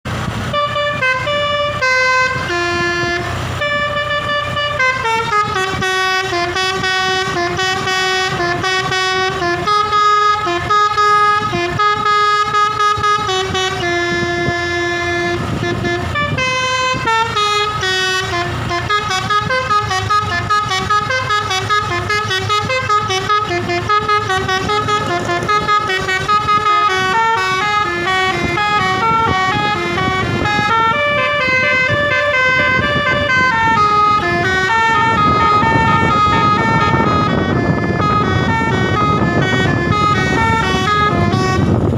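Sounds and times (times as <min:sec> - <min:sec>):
musical air horn melody: 0:00.5 - 0:41.9.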